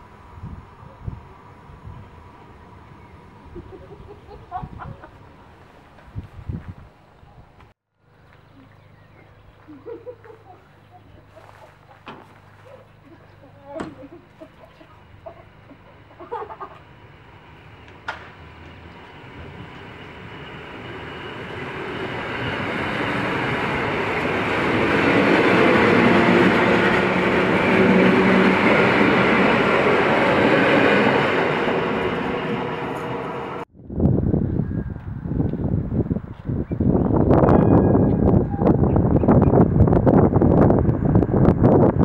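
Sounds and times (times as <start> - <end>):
electric train passing: 0.0 - 6.2, 12.9 - 42.0.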